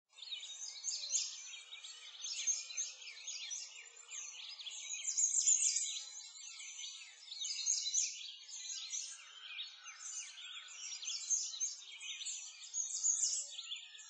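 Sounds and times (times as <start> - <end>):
songbirds chirping: 0.1 - 14.0.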